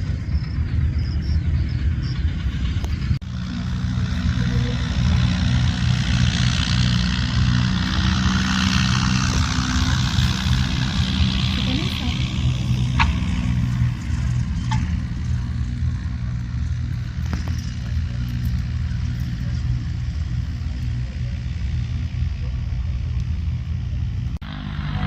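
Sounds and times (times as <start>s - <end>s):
light aircraft piston engine drone: 0.0s - 25.0s.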